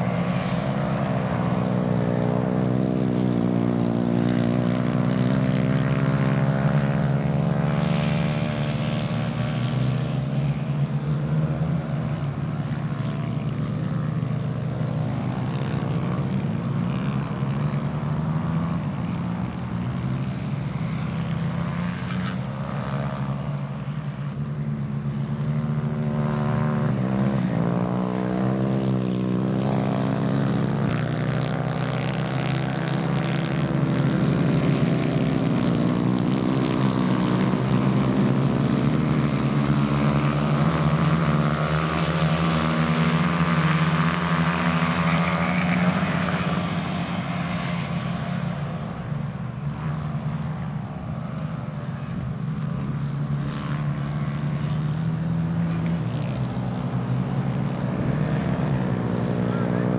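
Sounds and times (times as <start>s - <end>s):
kart engines racing: 0.0s - 59.9s.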